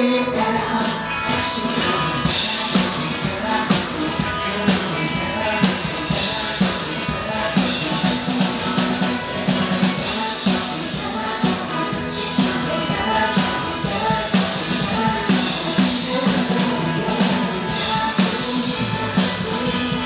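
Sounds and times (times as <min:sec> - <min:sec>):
drum kit playing: 0:00.0 - 0:20.0
recorded pop song: 0:00.0 - 0:20.0.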